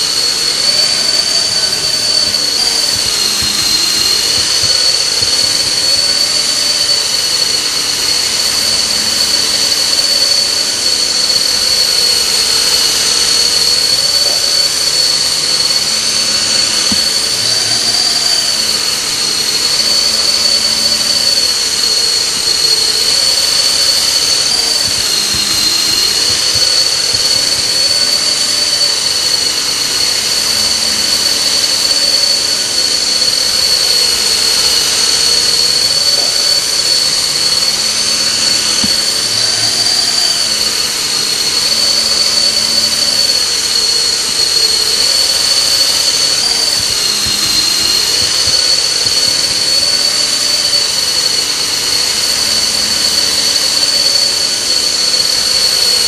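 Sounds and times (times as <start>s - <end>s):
low wavering rotor drone: 0.0s - 56.0s
model helicopter whine: 0.0s - 56.0s.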